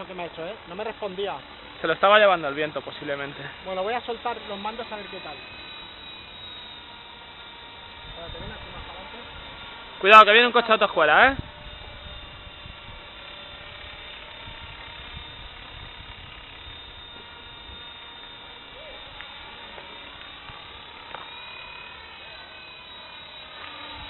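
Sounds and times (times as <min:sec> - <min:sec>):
model helicopter motor whine: 0:00.0 - 0:24.0.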